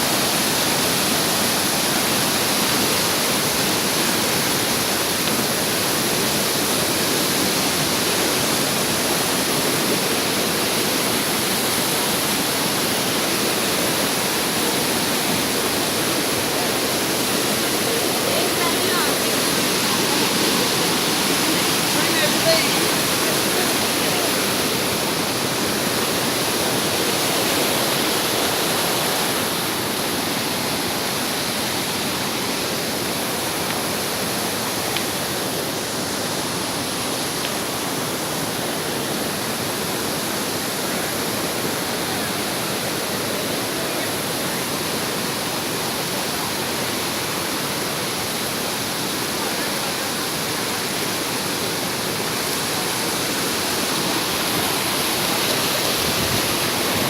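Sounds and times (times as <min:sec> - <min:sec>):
fast-flowing river water: 0:00.0 - 0:57.0
waterfall rushing: 0:00.0 - 0:57.0.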